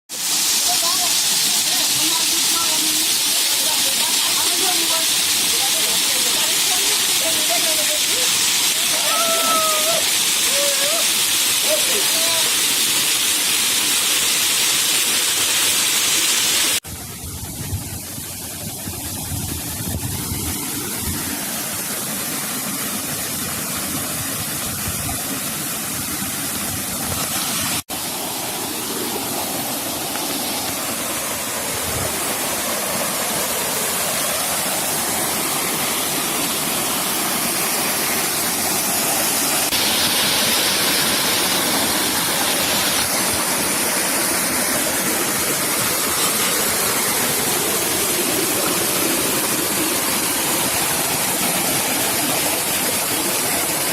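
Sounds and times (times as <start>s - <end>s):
waterfall rushing: 0.1s - 53.9s.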